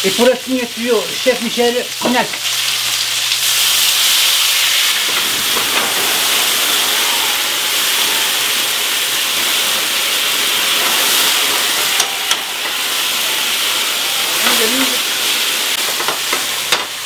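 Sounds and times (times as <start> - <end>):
chicken sizzling in a hot pan: 0.0 - 17.0.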